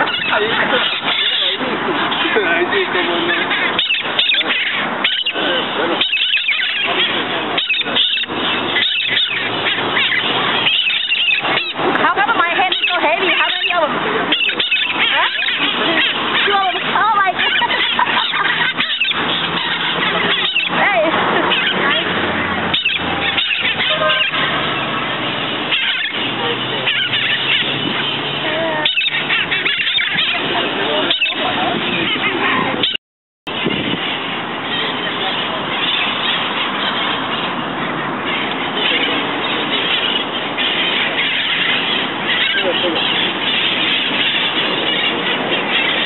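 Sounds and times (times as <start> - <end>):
parakeets calling shrilly: 0.0 - 46.0
street traffic: 0.0 - 46.0.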